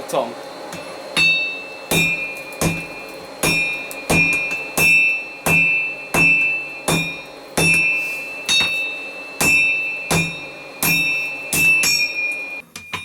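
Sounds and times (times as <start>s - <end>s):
anvil ringing: 0.7s - 13.0s
hammer striking steel on anvil: 0.7s - 13.0s.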